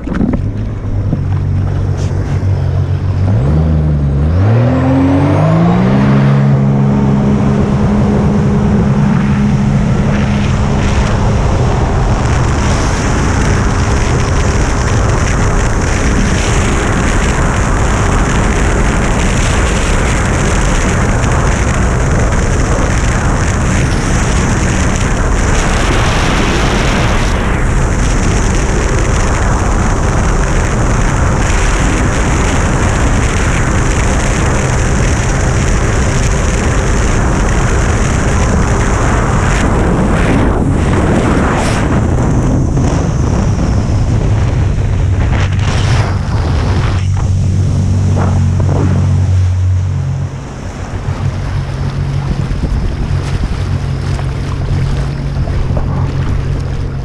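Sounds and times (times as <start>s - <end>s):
jet ski engine revving: 0.0s - 57.0s
rush of wind and water: 0.0s - 57.0s.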